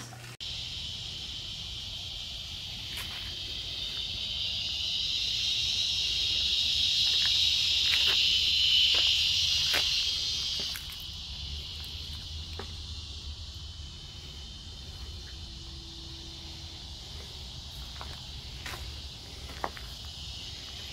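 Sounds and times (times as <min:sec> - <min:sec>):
insects buzzing: 0:00.0 - 0:20.9.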